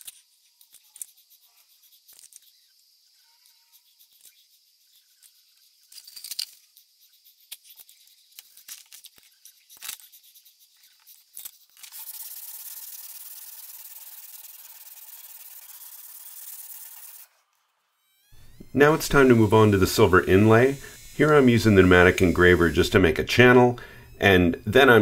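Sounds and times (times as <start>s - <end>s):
abrasive strip sanding hiss: 0.0s - 25.0s.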